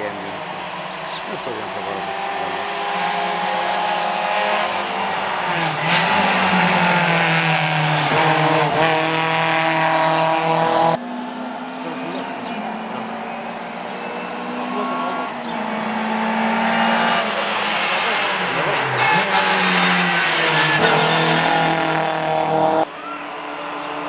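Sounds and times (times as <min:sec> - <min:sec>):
rally car engine at high revs: 0:00.0 - 0:22.9.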